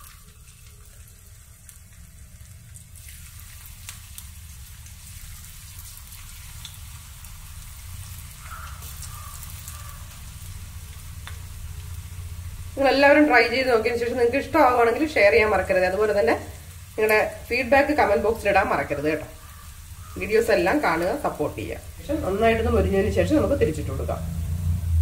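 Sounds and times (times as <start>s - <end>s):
battered food sizzling in oil: 0.0s - 25.0s.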